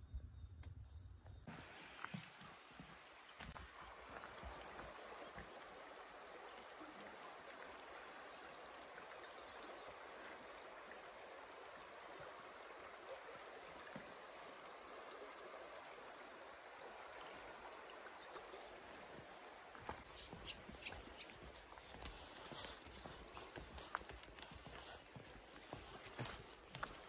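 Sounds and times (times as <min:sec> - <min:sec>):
river rippling over gravel: 0:01.5 - 0:27.0.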